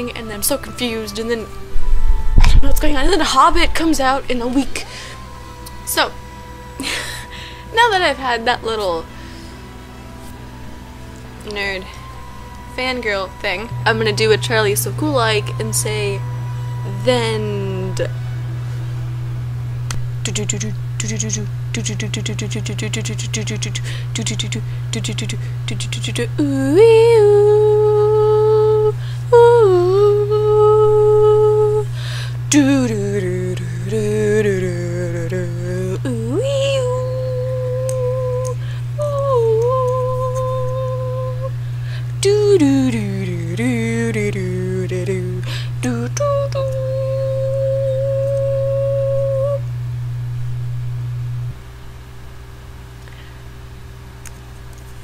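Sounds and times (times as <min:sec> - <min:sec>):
woman humming: 0:00.0 - 0:18.8, 0:19.9 - 0:51.6
steady low hum: 0:00.0 - 0:55.0.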